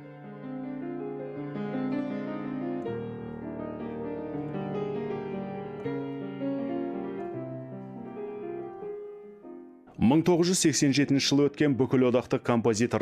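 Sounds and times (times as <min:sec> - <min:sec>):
slow piano music: 0:00.0 - 0:11.6.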